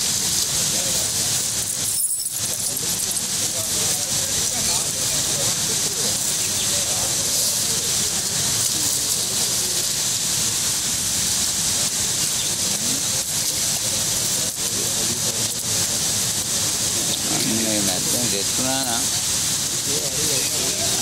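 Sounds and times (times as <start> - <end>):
faint voices: 0.0 - 21.0
rushing canal water: 0.0 - 21.0.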